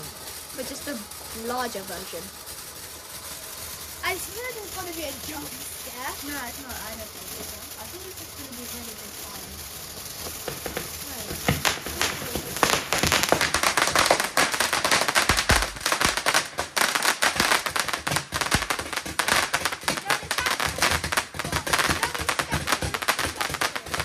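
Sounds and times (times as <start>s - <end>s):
firework crackling: 0.0s - 24.0s.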